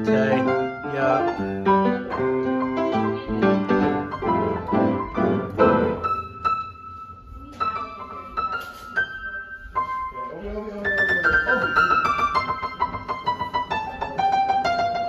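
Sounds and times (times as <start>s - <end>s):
high piano notes ringing: 0.0s - 15.0s
piano chords: 0.0s - 15.0s.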